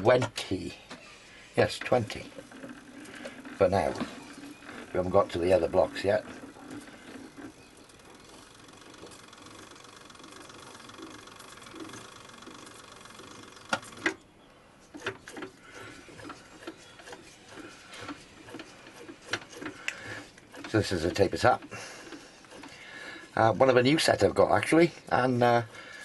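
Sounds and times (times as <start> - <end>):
milling machine motor running: 1.9 - 14.2, 15.0 - 23.9.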